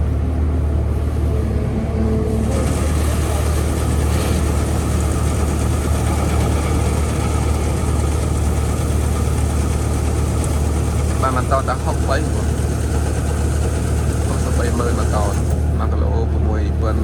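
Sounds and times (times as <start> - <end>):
engine running with deep hum: 0.0 - 17.0.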